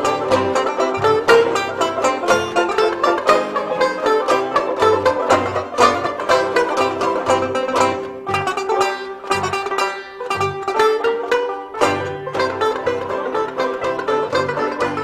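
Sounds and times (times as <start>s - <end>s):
bluegrass string picking: 0.0s - 15.0s
low bass notes: 0.0s - 15.0s.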